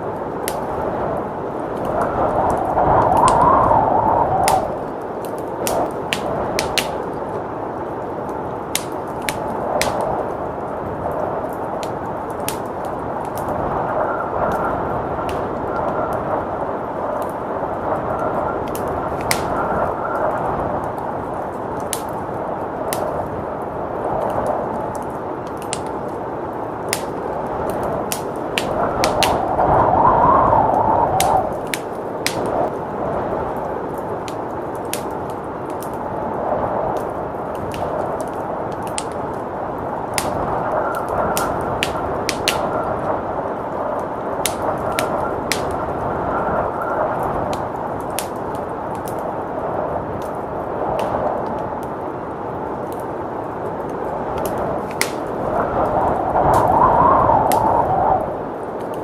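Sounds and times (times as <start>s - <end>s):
blizzard wind rushing: 0.0s - 59.0s
wood fire crackling and popping: 0.0s - 59.0s.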